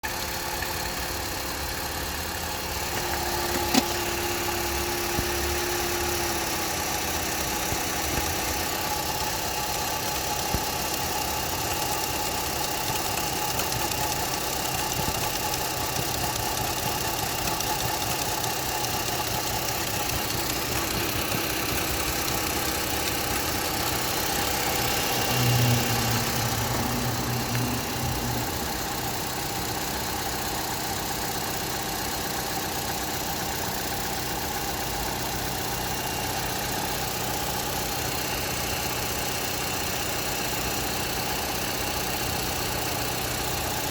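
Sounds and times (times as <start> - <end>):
car engine idling: 0.0 - 43.9
engine knocking: 0.0 - 43.9.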